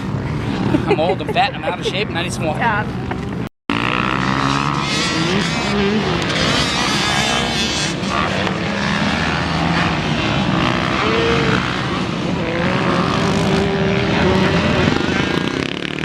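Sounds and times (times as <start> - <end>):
dirt bikes revving: 0.0 - 16.0.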